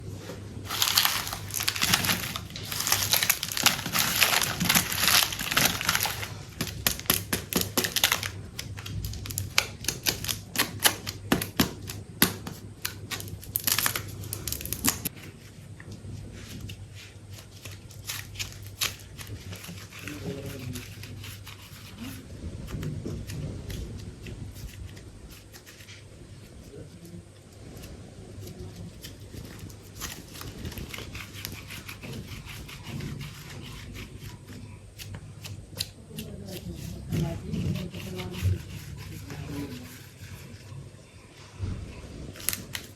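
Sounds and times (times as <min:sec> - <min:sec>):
plastic packaging crinkling and tearing: 0:00.6 - 0:15.4, 0:16.4 - 0:26.0, 0:27.7 - 0:40.5, 0:42.3 - 0:42.9.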